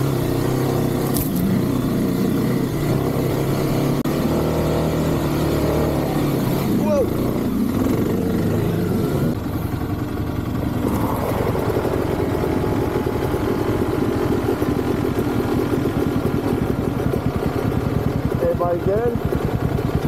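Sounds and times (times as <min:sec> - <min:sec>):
dirt bike engine idling: 0:00.0 - 0:20.0.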